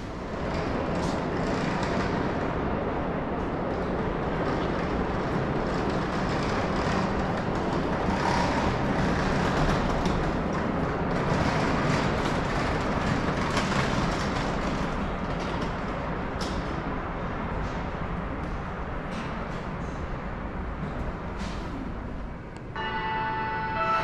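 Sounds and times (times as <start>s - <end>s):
electric train equipment hum: 0.0s - 24.0s.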